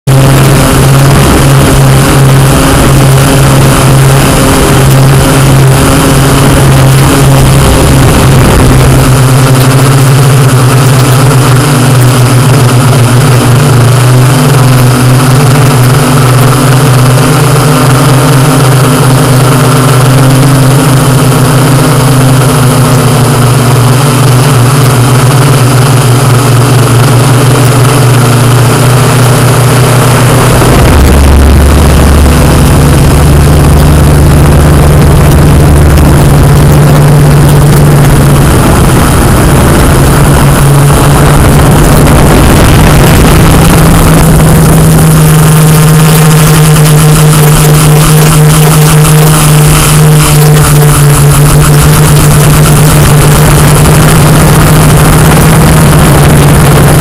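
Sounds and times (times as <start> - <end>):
drone propellers buzzing: 0.0 - 57.0
low rumble: 0.0 - 57.0.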